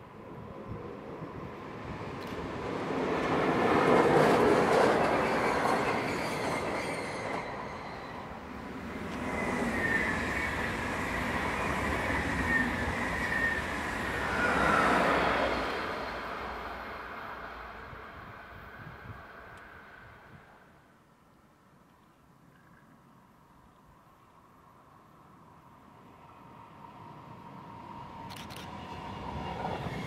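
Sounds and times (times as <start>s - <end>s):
passenger train passing: 0.0s - 20.9s, 25.3s - 30.0s.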